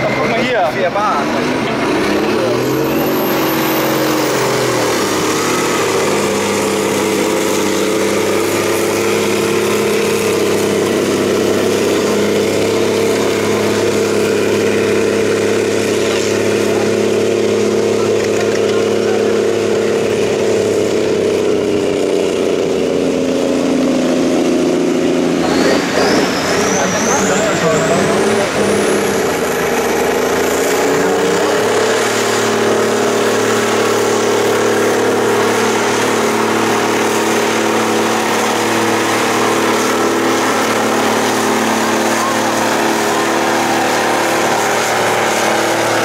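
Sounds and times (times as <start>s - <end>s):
tractor diesel engine under load: 0.0s - 46.0s.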